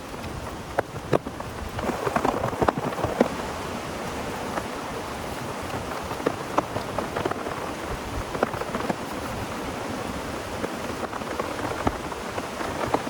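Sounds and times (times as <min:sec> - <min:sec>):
heavy rain falling: 0:00.0 - 0:13.0
raindrops tapping a surface: 0:00.0 - 0:13.0.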